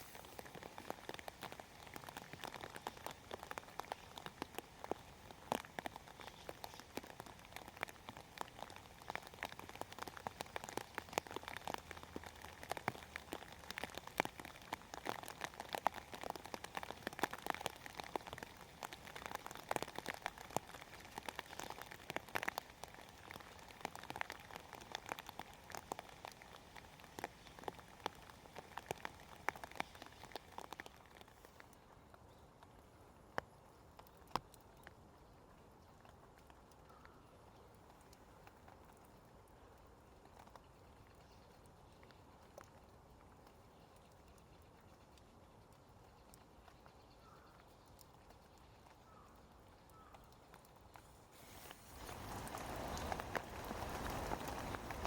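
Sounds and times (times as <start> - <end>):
rain on leaves: 0.0 - 55.0.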